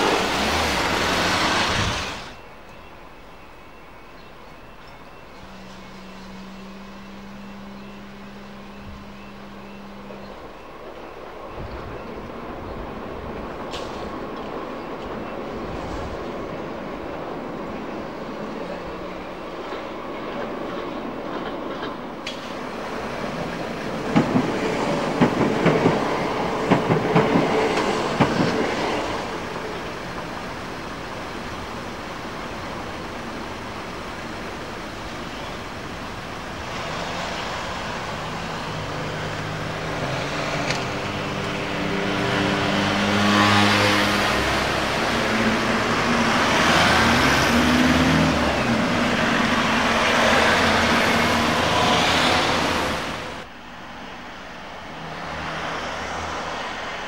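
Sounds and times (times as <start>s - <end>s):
car engines driving across: 0.0s - 57.0s
train wheels clicking over rail joints: 4.2s - 53.0s.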